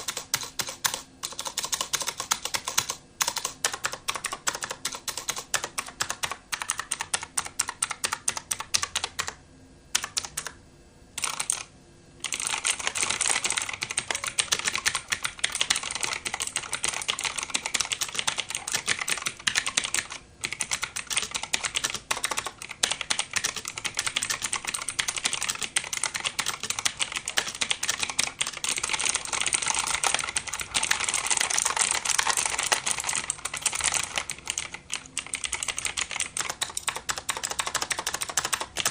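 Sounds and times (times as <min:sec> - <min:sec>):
mechanical keyboard typing: 0:00.0 - 0:10.6, 0:11.2 - 0:38.9.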